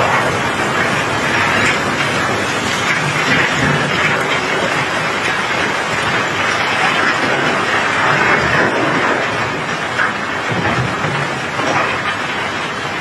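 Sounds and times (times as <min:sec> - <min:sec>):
cobblestones clattering and rolling: 0:00.0 - 0:13.0
rain falling: 0:00.0 - 0:13.0.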